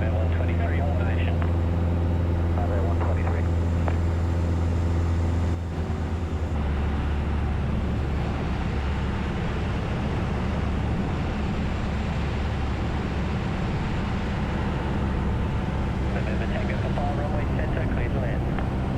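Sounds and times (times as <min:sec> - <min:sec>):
aircraft engine and propeller droning: 0:00.0 - 0:18.9.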